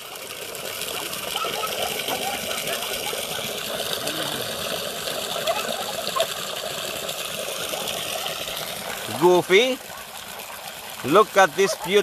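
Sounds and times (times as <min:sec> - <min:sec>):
hose water pouring into bucket: 0:00.0 - 0:12.0.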